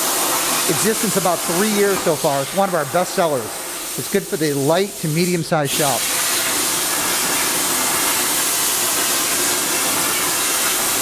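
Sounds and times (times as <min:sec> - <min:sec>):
plasma torch hissing: 0:00.0 - 0:11.0.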